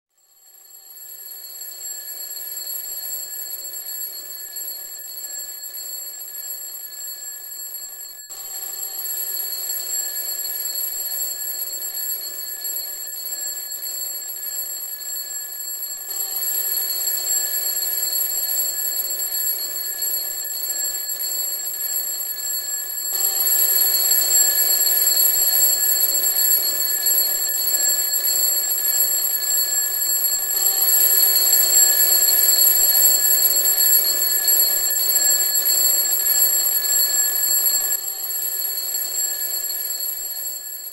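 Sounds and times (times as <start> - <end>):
alarm clock ringing: 0.4 - 40.9.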